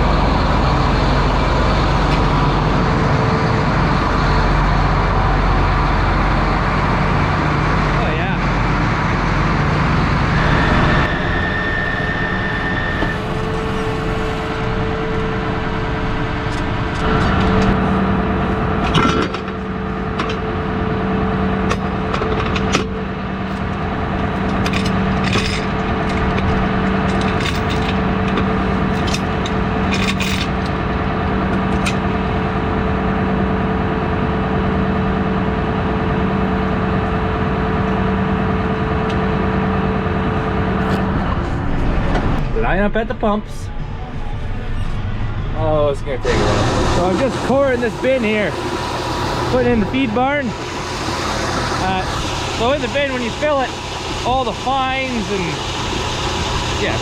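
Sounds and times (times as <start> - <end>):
farm machinery humming: 0.0 - 57.0.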